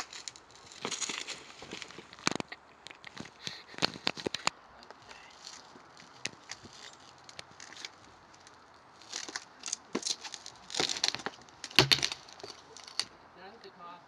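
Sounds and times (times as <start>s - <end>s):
rustles and scuffs: 0.0s - 13.1s.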